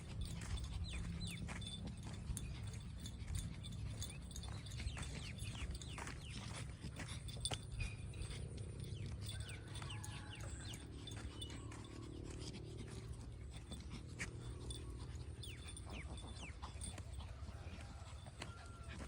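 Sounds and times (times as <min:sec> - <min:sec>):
steady low rumble: 0:00.0 - 0:17.8
small birds chirping: 0:00.0 - 0:19.0.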